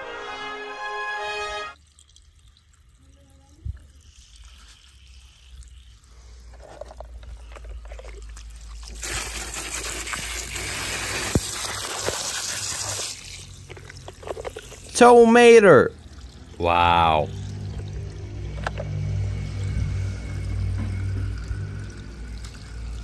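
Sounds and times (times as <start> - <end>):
water spraying onto plastic toy: 2.0 - 7.8, 8.4 - 23.0.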